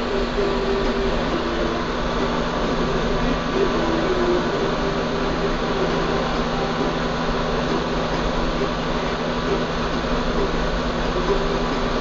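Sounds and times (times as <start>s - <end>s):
hot-air station blowing air: 0.0s - 12.0s
low hum: 0.0s - 12.0s.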